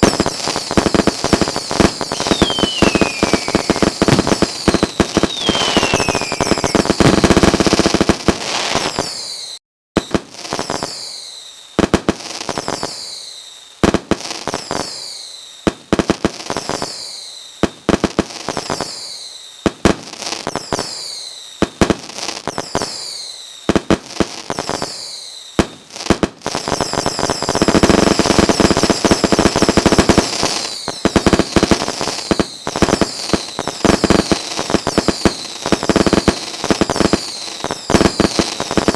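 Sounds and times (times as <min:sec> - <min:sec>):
falling firework whistles: 0:00.0 - 0:15.9, 0:16.5 - 0:38.9
fireworks bangs and crackling: 0:00.0 - 0:38.9.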